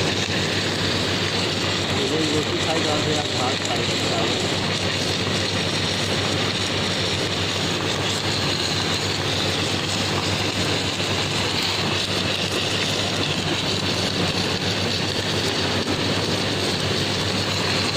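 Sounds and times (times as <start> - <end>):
welding machine humming and hissing: 0.0 - 17.9.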